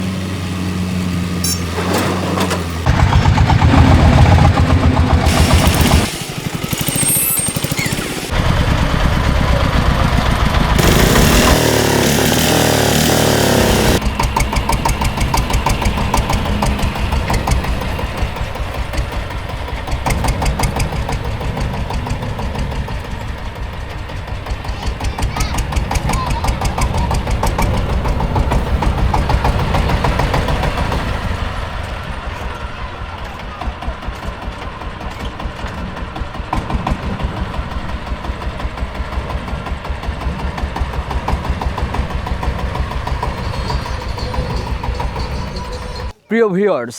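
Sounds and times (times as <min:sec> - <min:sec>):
diesel machinery engines running: 0:00.0 - 0:46.2.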